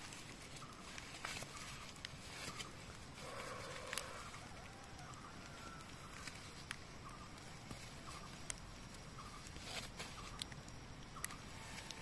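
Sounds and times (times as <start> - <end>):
rustles of dry leaves: 0.0 - 12.0.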